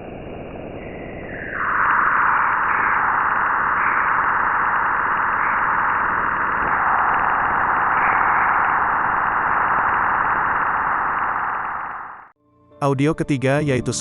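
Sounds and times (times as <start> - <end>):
eerie hiss with wavering tones: 0.0 - 12.3.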